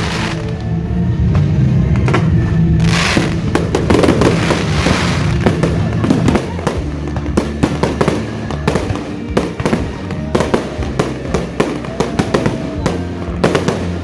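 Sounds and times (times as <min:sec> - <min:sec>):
fireworks bangs and crackles: 0:00.0 - 0:14.0
music: 0:00.0 - 0:14.0.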